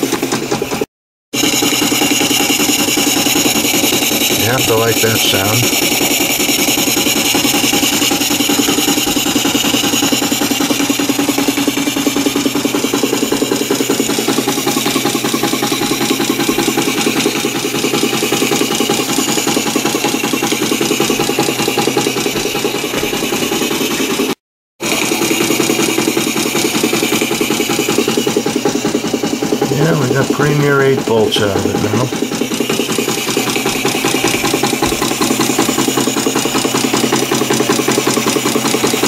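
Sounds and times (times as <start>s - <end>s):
steam engine chuffing: 0.0s - 39.0s.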